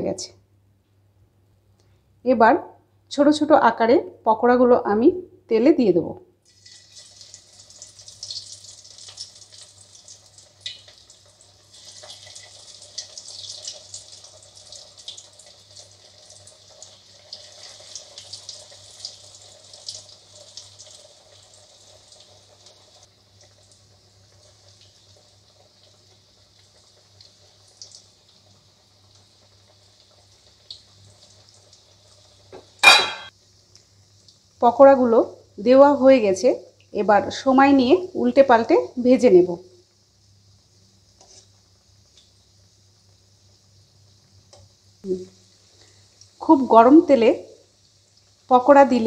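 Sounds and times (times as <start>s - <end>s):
batter sizzling in hot oil: 6.4s - 49.0s.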